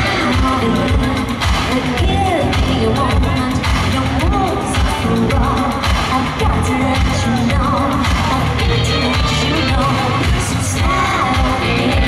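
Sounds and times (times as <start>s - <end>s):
live pop band with bass beat: 0.0s - 12.0s
woman singing into a microphone: 0.0s - 12.0s.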